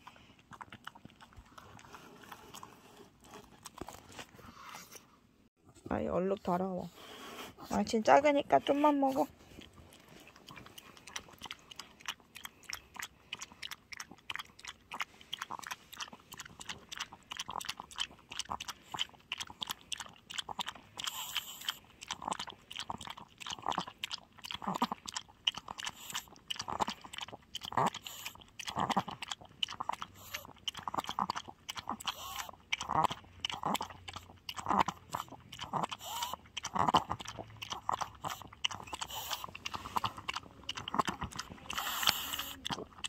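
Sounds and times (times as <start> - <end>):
dog eating wet food: 0.0 - 4.6, 6.4 - 43.0.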